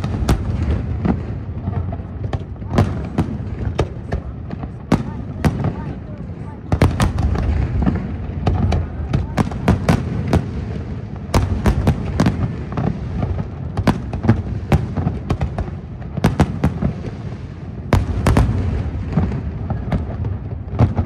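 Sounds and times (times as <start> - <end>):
fireworks bangs: 0.0 - 21.0
low rumble of echoing explosions: 0.0 - 21.0.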